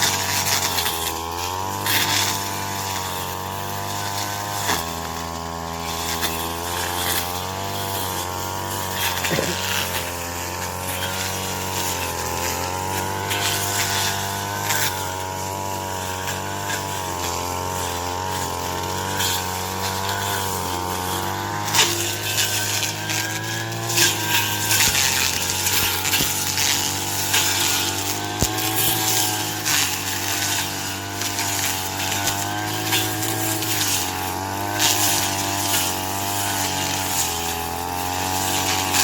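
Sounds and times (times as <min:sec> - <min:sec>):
chopping machine motor: 0:00.0 - 0:39.0
crackling stalk cuts: 0:00.0 - 0:39.0.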